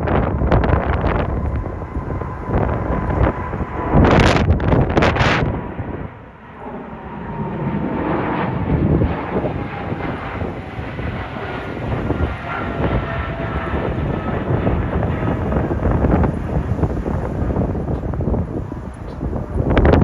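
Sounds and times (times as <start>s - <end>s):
faint thin engine whine: 0.0s - 20.0s
jet airliner engine rushing: 0.0s - 20.0s.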